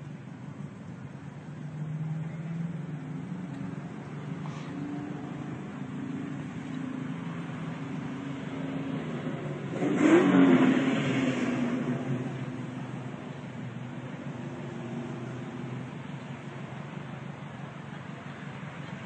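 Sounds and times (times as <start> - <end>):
vehicle engines running: 0.0 - 19.0
car revving or passing: 1.6 - 17.2.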